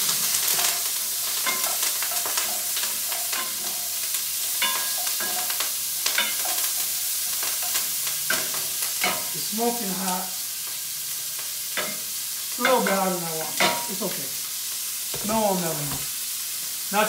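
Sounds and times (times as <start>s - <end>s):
food sizzling in hot fat: 0.0s - 17.0s.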